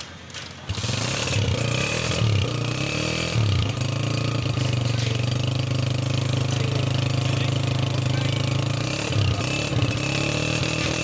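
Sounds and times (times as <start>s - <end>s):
motorcycle engine revving and idling: 0.7s - 11.0s.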